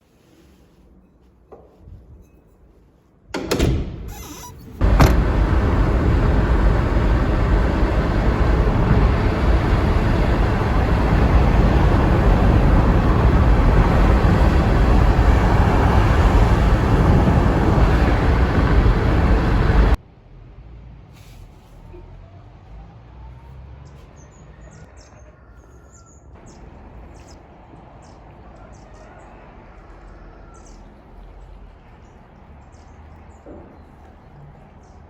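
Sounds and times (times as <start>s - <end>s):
moving vehicle rumble: 3.4s - 35.0s.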